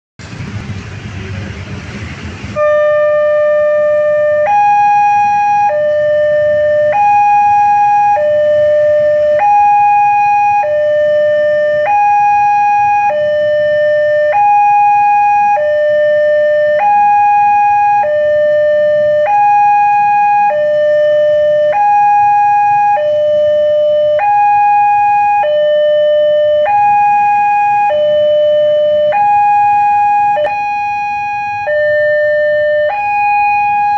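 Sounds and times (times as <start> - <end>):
two-tone crossing alarm siren: 2.5 - 33.9.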